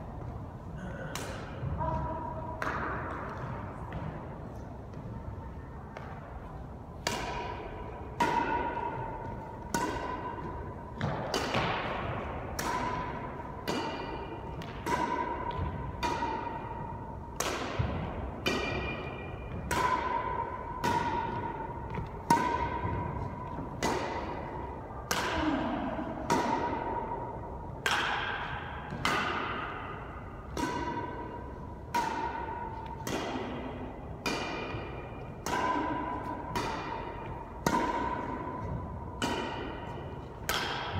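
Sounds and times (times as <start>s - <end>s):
rackets hitting shuttlecock: 0.2s - 5.2s, 5.8s - 40.9s.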